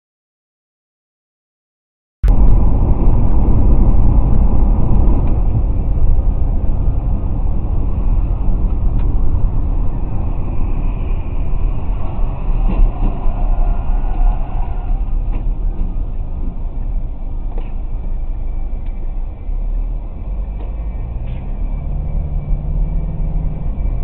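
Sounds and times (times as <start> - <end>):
car engine noise: 2.2 - 24.0
road rumble in car cabin: 2.2 - 24.0.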